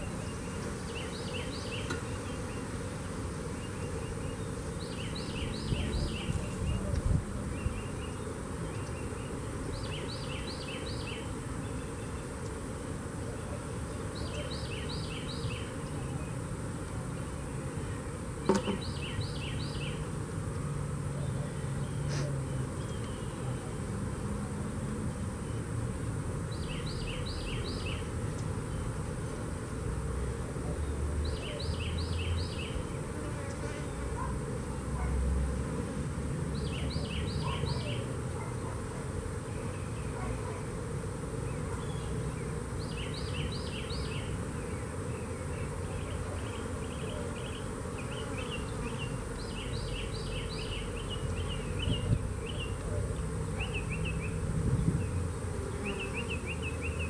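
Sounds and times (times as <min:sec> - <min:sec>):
honey bees buzzing: 0:00.0 - 0:57.0.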